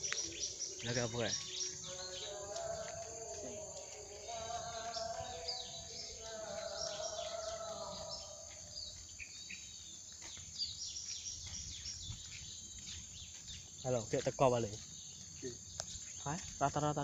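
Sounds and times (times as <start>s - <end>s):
forest birds chirping: 0.0s - 17.0s
walking noise: 0.0s - 17.0s.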